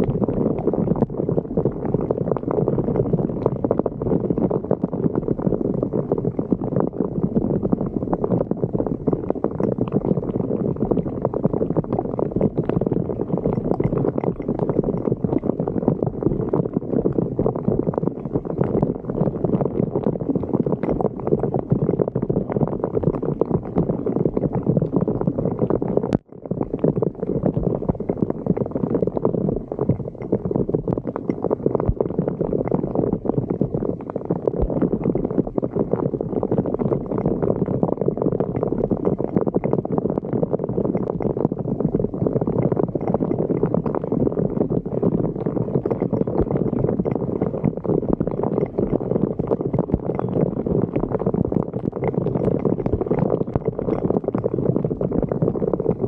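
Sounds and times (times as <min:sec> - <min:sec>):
floodwater gurgling into drain: 0:00.0 - 0:56.0.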